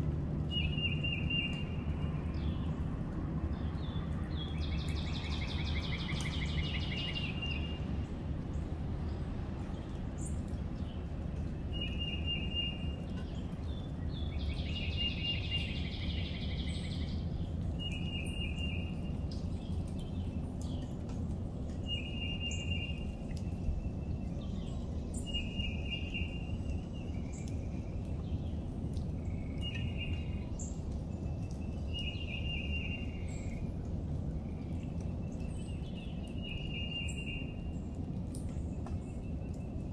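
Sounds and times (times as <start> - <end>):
low background rumble: 0.0 - 39.9
birds singing: 0.4 - 2.9, 3.5 - 39.9.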